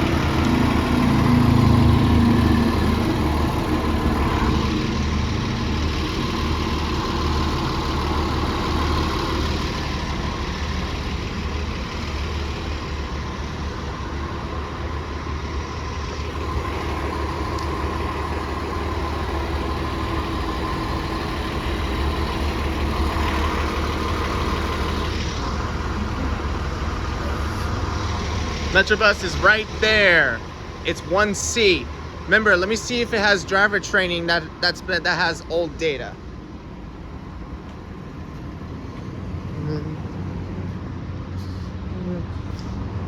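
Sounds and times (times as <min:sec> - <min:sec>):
bus engine idling: 0:00.0 - 0:43.0.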